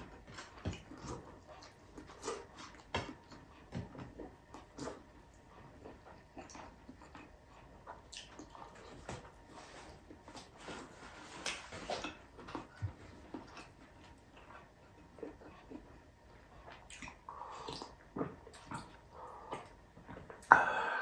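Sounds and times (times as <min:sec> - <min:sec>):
crunchy chewing and smacking: 0:00.0 - 0:20.5.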